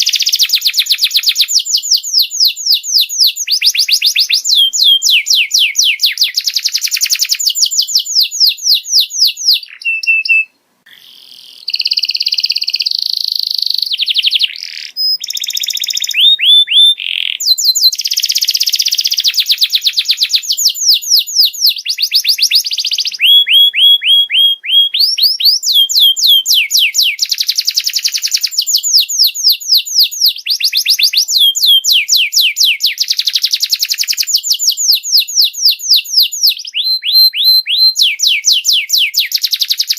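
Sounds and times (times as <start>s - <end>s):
canary song trills: 0.0s - 39.9s.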